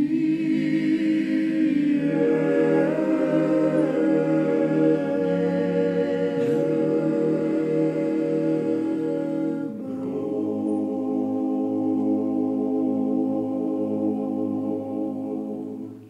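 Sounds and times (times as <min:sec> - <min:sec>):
male choir singing in harmony: 0:00.0 - 0:16.0.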